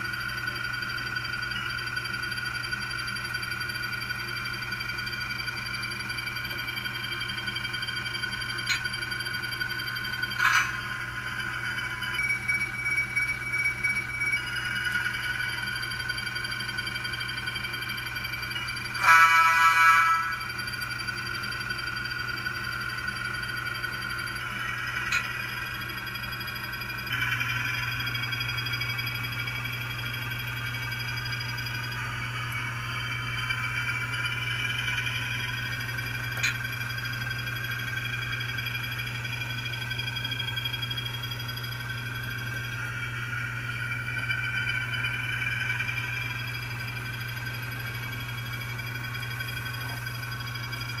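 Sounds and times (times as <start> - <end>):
low hum: 0.0 - 51.0
model train motor whine: 0.0 - 51.0.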